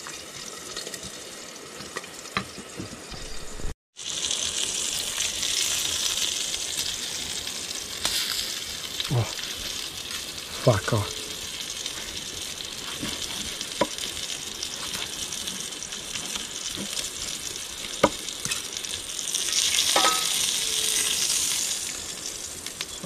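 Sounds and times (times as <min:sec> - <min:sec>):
meat sizzling in hot oil: 0:00.0 - 0:23.0.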